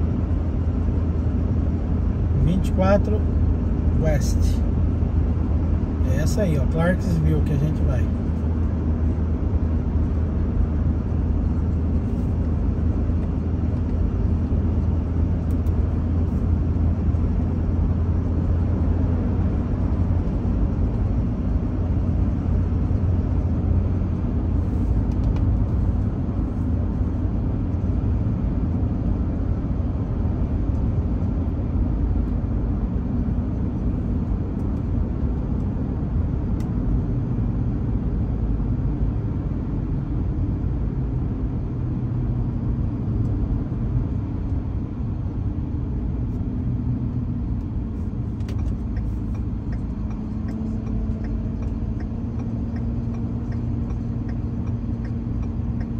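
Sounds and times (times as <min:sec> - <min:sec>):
truck engine and road noise: 0:00.0 - 0:55.9.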